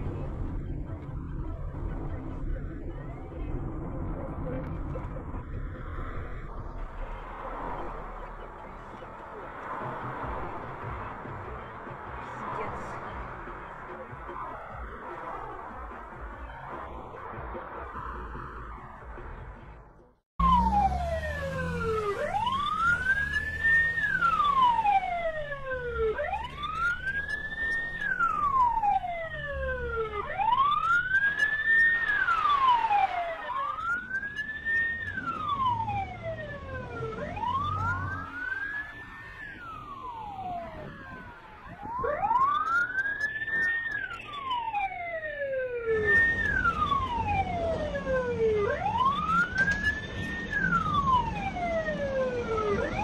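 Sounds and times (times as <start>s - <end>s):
police siren wailing: 0.0s - 19.5s, 20.4s - 53.0s
low rumble of road traffic: 0.0s - 53.0s.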